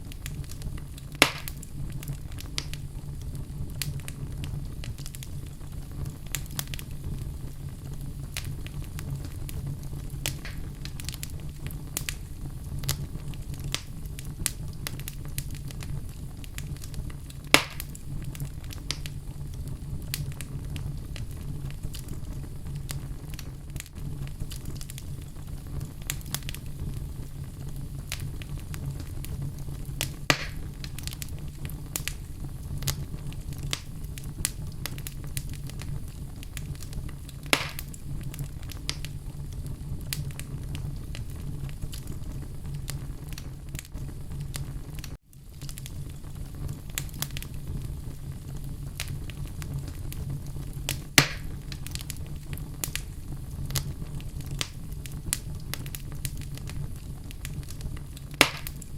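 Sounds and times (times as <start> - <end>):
fire crackling: 0.0 - 58.9
loud fire pops: 0.0 - 58.9
low rumble of flames: 0.0 - 58.9.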